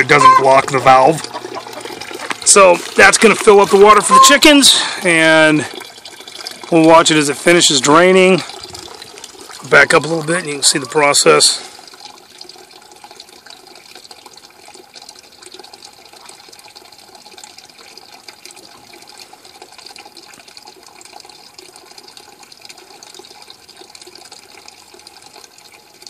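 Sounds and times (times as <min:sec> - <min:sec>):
water pouring into bucket: 0:00.0 - 0:26.0.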